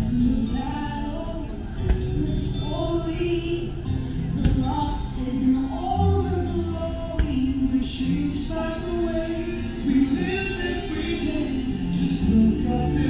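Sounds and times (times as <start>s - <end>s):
orchestral music with singing: 0.0s - 13.0s.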